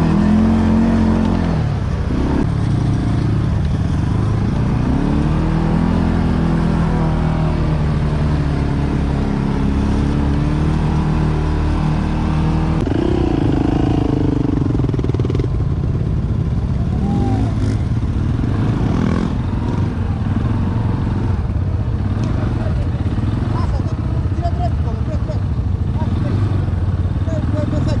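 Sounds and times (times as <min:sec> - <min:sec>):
atv engine revving: 0:00.0 - 0:28.0.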